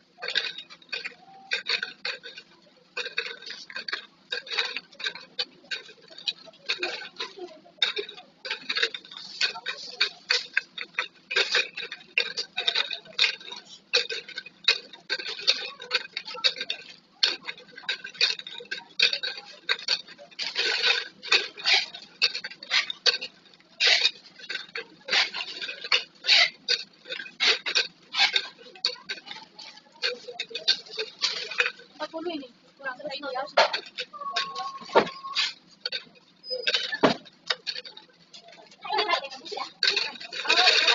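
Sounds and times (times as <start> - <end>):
plastic bottles and caps clicking: 0.2 - 32.2, 33.5 - 40.9.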